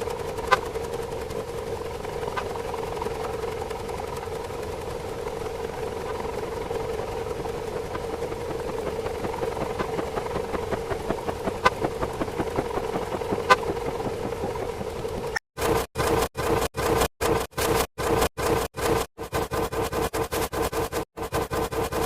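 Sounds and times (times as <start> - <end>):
engine-like droning: 0.0 - 22.0.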